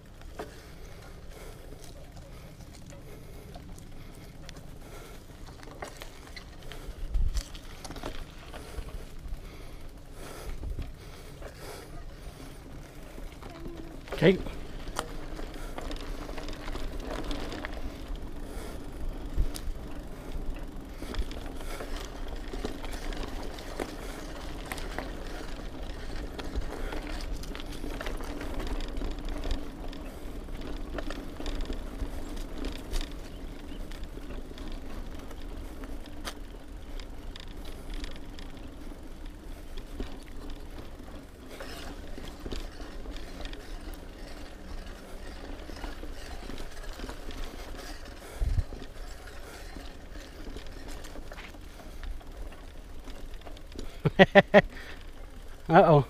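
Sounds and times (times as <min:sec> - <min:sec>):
bike rattling over bumps: 0:00.0 - 0:56.0
bike tyres rolling on dirt: 0:00.0 - 0:56.0.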